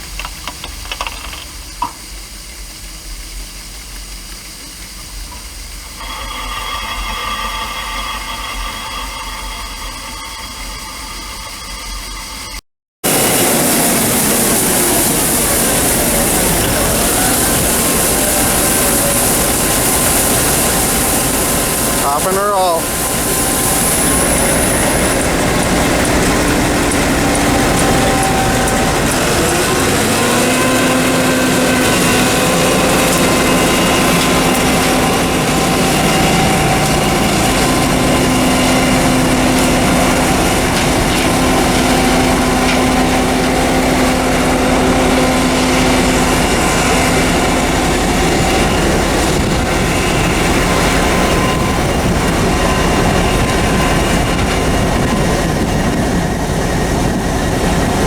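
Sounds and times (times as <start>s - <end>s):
combine harvester drone: 0.0s - 58.0s
whining tones: 4.9s - 58.0s.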